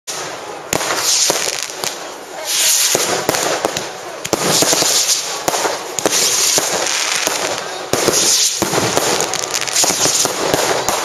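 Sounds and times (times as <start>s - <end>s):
fireworks bangs and cracks: 0.1s - 11.0s
hissing crackle of fireworks: 0.1s - 11.0s.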